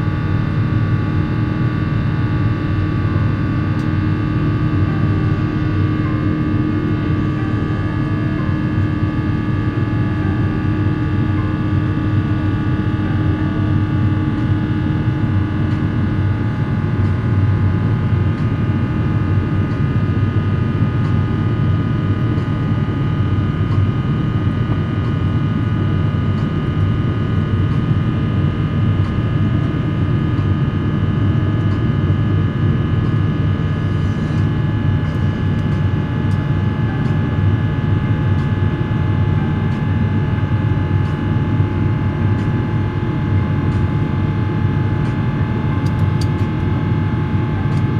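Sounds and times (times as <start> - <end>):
airflow and engine rumble: 0.0 - 47.9.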